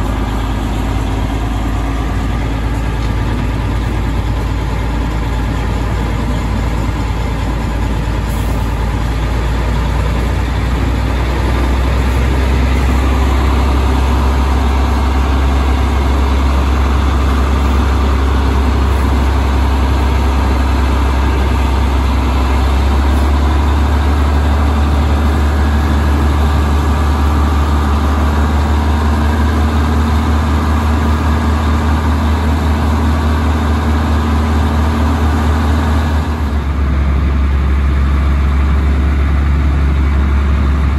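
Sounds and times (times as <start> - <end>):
diesel locomotive engine humming: 0.0 - 40.9.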